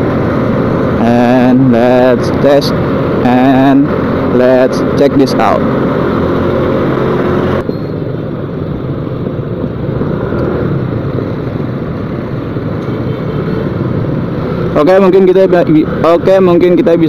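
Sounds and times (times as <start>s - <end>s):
motorcycle engine running: 0.0s - 17.0s
traffic rumble: 0.0s - 17.0s
wind rush: 0.0s - 17.0s.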